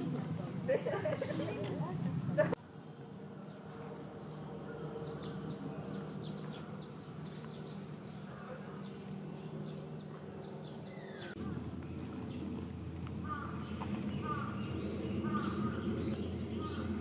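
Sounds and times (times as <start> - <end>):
low background hum: 0.0 - 17.0
small birds chirping: 1.5 - 17.0.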